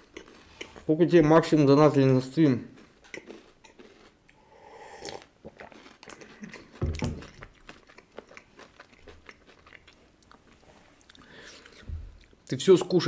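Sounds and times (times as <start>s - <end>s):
crunchy chewing: 0.0s - 1.0s, 2.0s - 12.4s.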